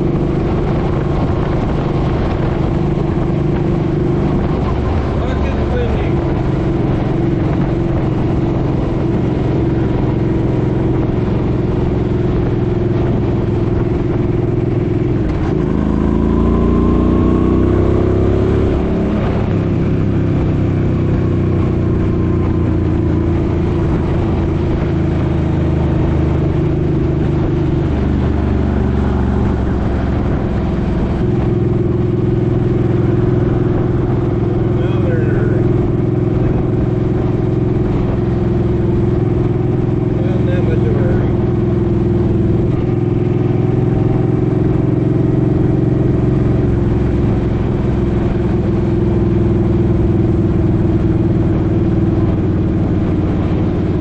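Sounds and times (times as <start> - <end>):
motorcycle engine running: 0.0 - 54.0
wind rumbling over microphone: 0.0 - 54.0.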